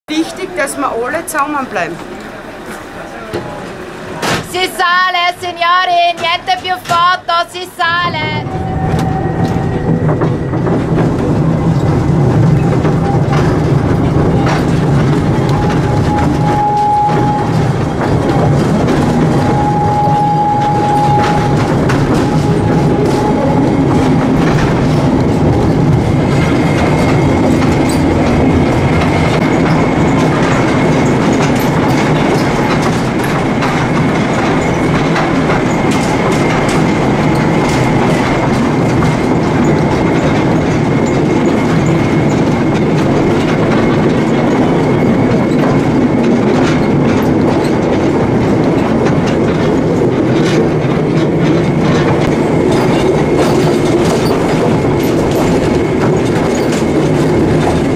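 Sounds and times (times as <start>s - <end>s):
rail joint clicks: 0.1s - 57.9s
train wheels rumbling on rails: 0.1s - 57.9s.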